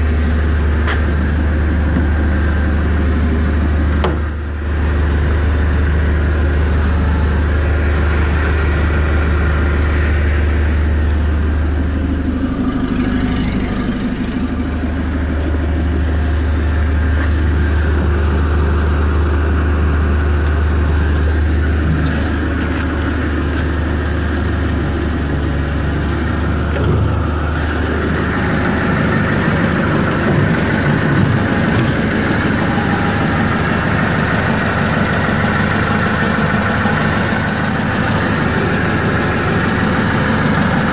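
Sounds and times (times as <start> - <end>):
forklift engine idling: 0.0 - 40.9.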